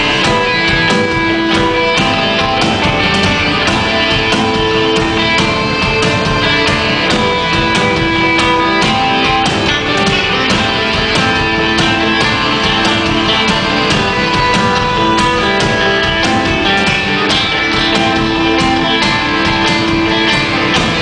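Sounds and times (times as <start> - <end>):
bass guitar: 0.0 - 21.0
drum beat: 0.0 - 21.0
electric guitars: 0.0 - 21.0
keyboard notes: 0.0 - 21.0.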